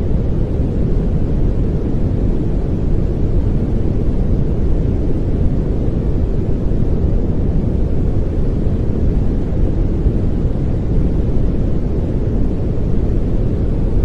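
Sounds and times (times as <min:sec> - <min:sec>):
steady pink noise hiss: 0:00.0 - 0:14.0.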